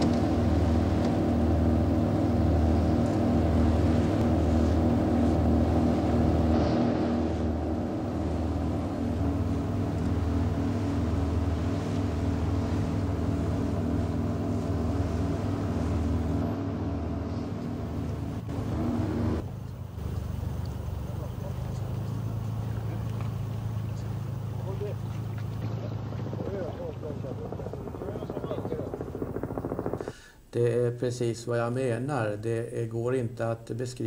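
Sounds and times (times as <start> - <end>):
boat engines droning: 0.0 - 34.0.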